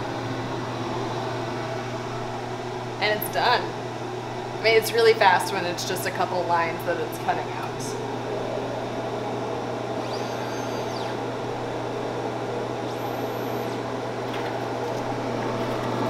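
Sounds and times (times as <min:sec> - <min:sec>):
exhaust fan whirring hum: 0:00.0 - 0:16.0.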